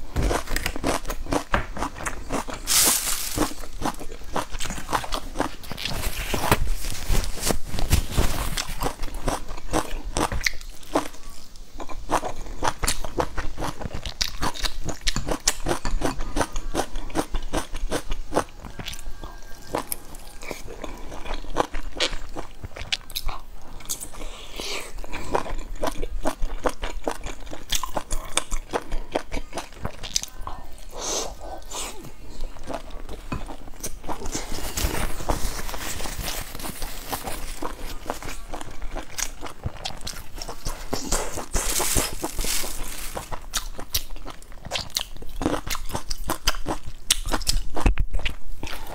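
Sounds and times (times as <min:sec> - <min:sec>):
person crunching and chewing food: 0:00.0 - 0:48.9.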